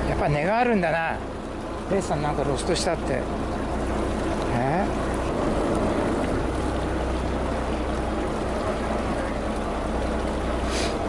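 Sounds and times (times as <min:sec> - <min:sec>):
boat engine humming: 0:00.0 - 0:11.0
wind and water hiss: 0:00.0 - 0:11.0.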